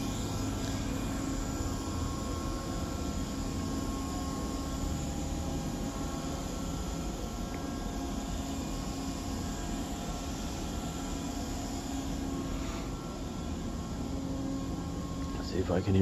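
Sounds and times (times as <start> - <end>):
low buzzing drone: 0.0 - 16.0.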